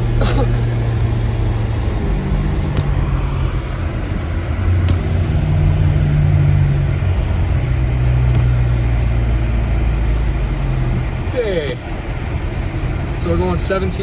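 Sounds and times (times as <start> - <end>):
car engine and road drone: 0.0 - 14.0.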